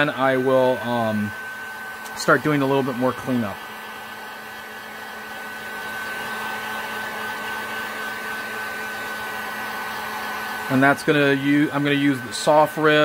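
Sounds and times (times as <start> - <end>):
heat gun blowing with high whine: 0.0 - 13.0.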